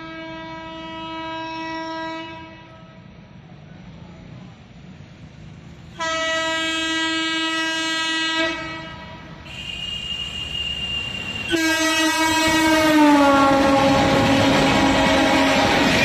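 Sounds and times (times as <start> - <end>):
locomotive air horn blast: 0.0 - 3.0, 6.0 - 16.0
low rumble of a train: 0.0 - 16.0.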